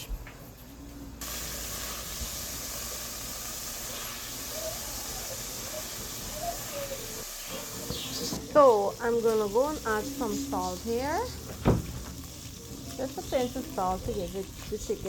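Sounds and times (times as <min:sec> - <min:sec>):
chicken sizzling in hot oil: 0:01.2 - 0:15.0.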